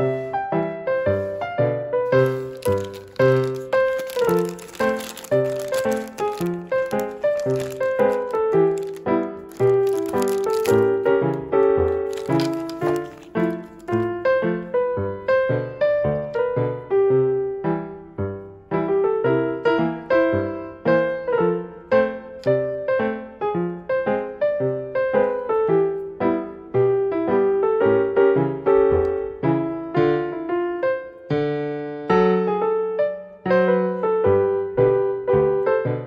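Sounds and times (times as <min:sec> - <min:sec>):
gentle piano melody: 0:00.0 - 0:36.0.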